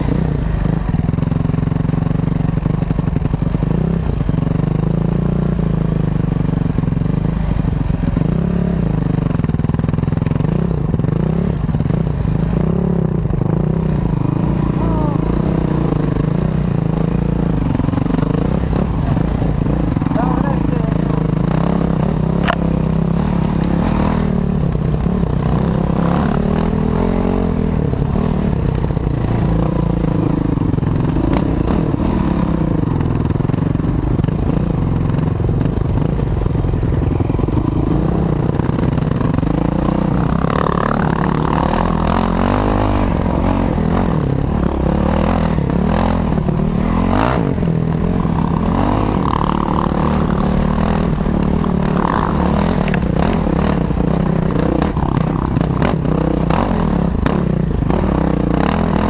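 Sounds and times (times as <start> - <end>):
dirt bike engine revving: 8.0 - 59.0.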